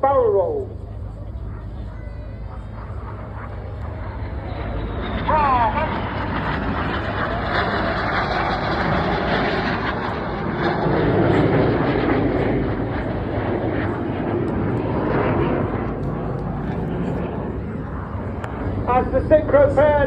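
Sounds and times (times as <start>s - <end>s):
jets passing fast and low: 2.8s - 20.0s.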